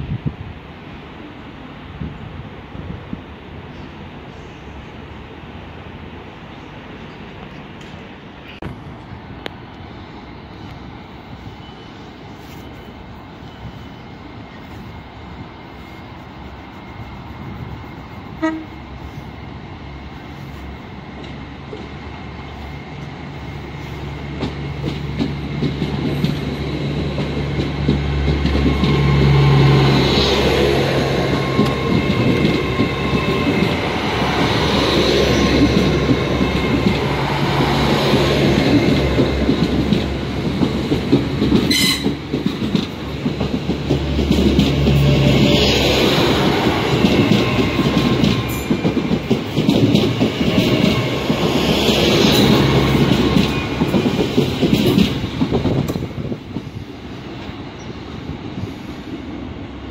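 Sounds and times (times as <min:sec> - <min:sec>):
train hum and wheel rumble: 0:00.0 - 0:59.9.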